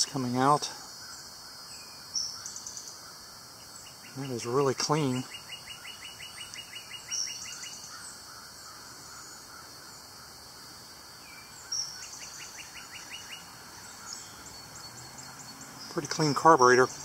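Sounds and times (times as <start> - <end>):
faint birdsong: 0.0 - 17.0
steady hiss: 0.0 - 17.0.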